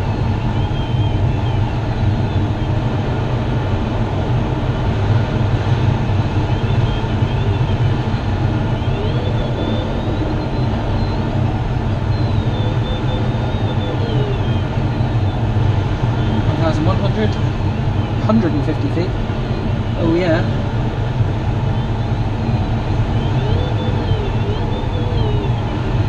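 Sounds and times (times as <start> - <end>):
airflow rushing around cockpit: 0.0 - 26.0.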